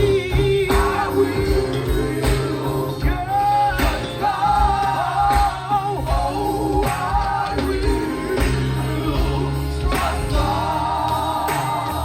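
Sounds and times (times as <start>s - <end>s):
gospel band playing: 0.0s - 12.0s.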